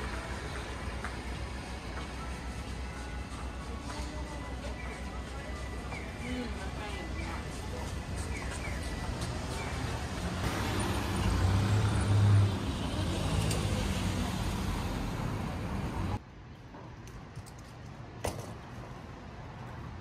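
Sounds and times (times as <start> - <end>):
quiet street background: 0.0 - 20.0
vehicles passing: 0.0 - 20.0.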